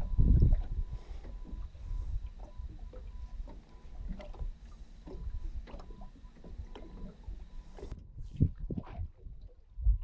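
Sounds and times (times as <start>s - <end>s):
waves lapping against boat hull: 0.0s - 10.0s.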